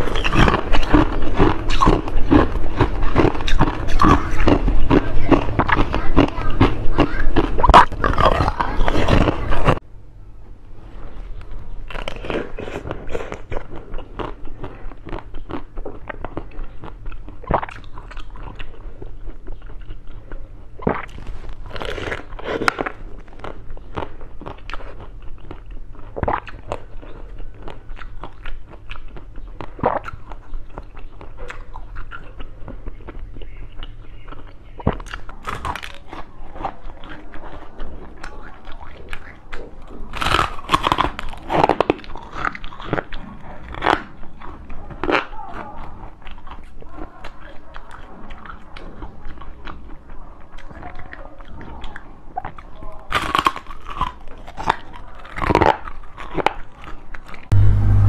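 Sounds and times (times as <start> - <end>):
chewing: 0.0 - 9.8, 11.0 - 58.0
crunching bites of frozen food: 0.0 - 9.8, 11.9 - 20.1, 20.8 - 32.2, 34.4 - 37.6, 38.2 - 46.7, 52.0 - 58.0.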